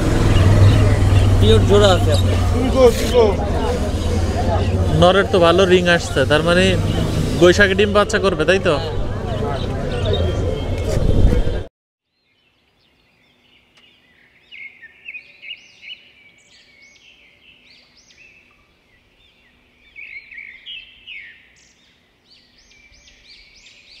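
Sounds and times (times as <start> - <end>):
small birds chirping: 0.0 - 11.0, 12.1 - 24.0.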